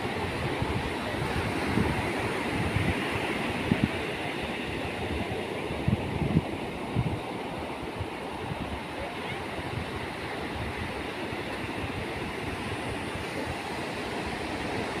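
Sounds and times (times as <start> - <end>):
waves washing on sandy beach: 0.0 - 15.0.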